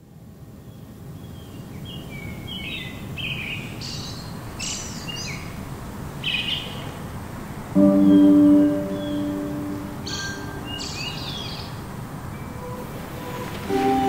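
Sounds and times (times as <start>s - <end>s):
birds chirping and trilling: 0.8s - 5.6s, 6.2s - 7.1s, 7.8s - 14.0s.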